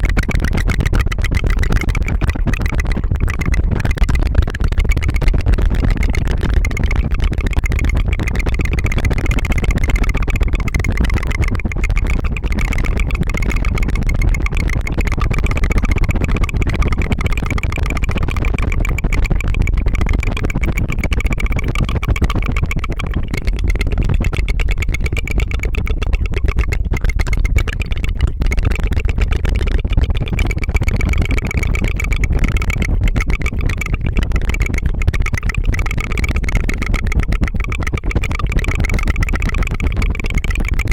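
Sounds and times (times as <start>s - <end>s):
tongue fluttering trill: 0.0s - 40.9s.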